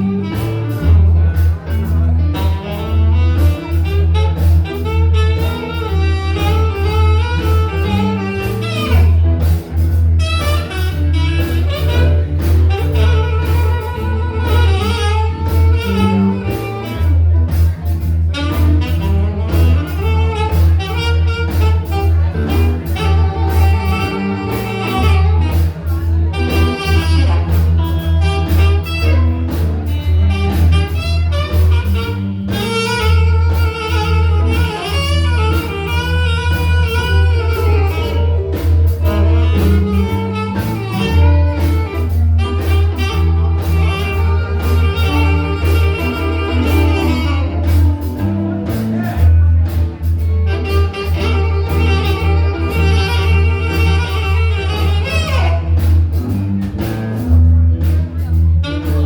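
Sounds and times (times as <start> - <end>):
bass line: 0.0 - 59.0
guitar: 0.0 - 59.0
saxophone lead: 0.0 - 59.0.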